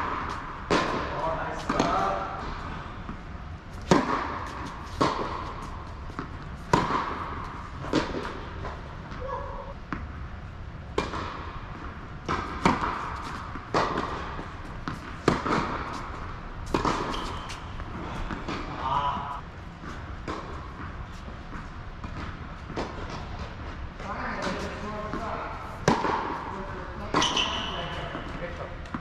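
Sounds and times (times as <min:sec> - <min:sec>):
tennis ball bouncing on hard court: 0:00.0 - 0:03.2, 0:03.8 - 0:09.3, 0:10.9 - 0:23.4, 0:24.4 - 0:29.0
racket hitting tennis ball: 0:00.0 - 0:09.3, 0:10.9 - 0:23.5, 0:24.4 - 0:28.3.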